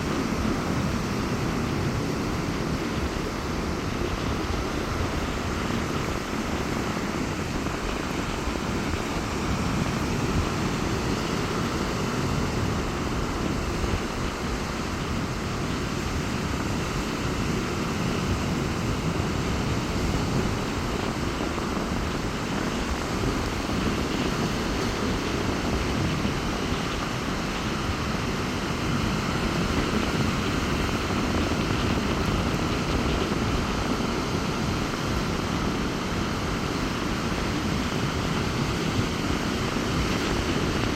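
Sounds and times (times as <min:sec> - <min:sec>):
sea surf breaking on beach: 0:00.0 - 0:40.9
wind noise on microphone: 0:00.0 - 0:40.9.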